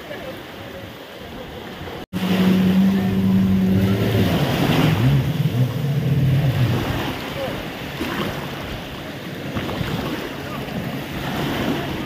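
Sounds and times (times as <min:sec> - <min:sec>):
surf: 0:00.0 - 0:12.0
wind: 0:00.0 - 0:12.0
motorboat engine running: 0:01.3 - 0:12.0.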